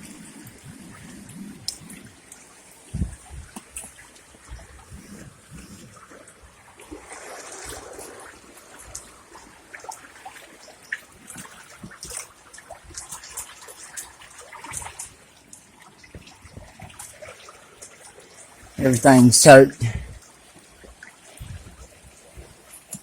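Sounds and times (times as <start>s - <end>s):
water trickling and dripping: 0.0s - 23.0s.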